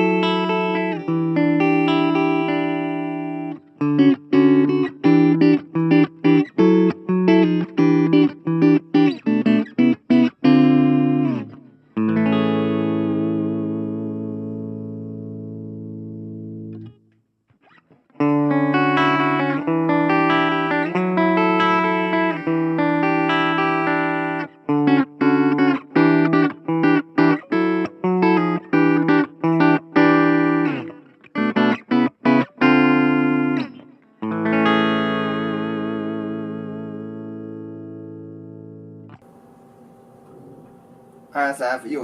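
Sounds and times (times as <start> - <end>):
choppy guitar chord stabs: 0.0 - 17.0, 18.1 - 42.0
clean electric guitar chords: 0.0 - 17.0, 17.6 - 42.0.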